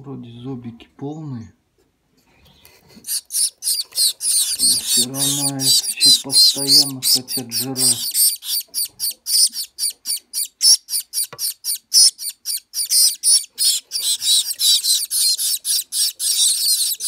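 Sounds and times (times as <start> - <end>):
nestlings squeaking for food: 3.0 - 17.0.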